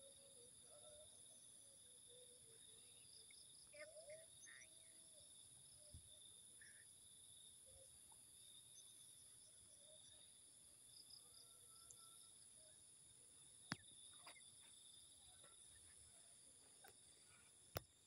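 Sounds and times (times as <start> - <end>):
crickets and insects chorus: 0.0 - 18.0.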